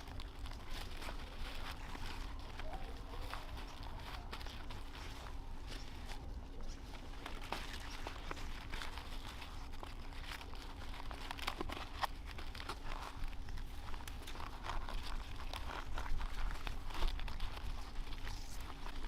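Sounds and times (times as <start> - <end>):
material crinkling and crackling: 0.0 - 19.0.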